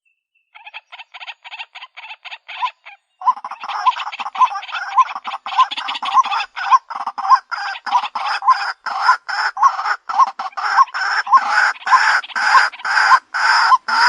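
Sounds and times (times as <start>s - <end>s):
bird croaking calls: 0.5s - 14.0s.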